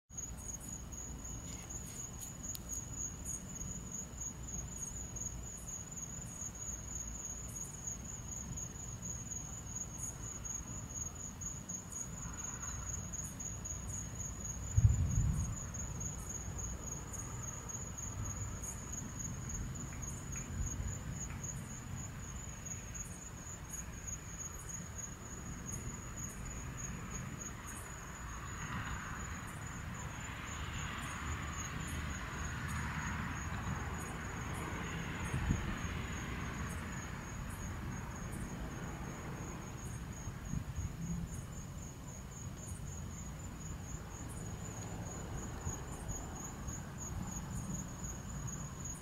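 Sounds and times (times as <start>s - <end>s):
night insects trilling: 0.1s - 49.0s.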